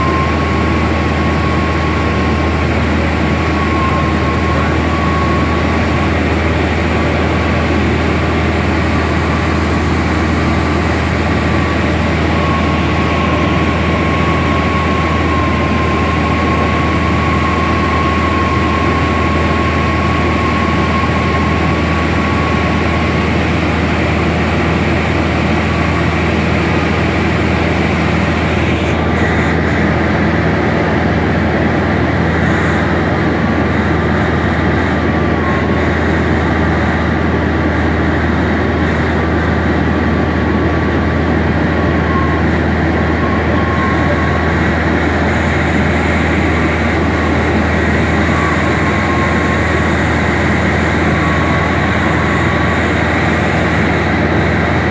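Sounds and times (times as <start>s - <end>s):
airplane cabin engine drone: 0.0s - 54.9s
thin wavering whine: 0.0s - 54.9s.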